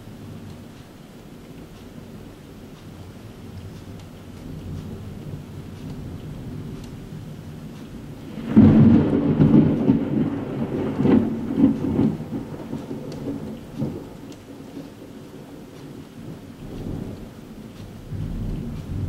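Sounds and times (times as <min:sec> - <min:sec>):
steady rain: 0:00.0 - 0:19.0
thunder crack and rumble: 0:01.6 - 0:19.0.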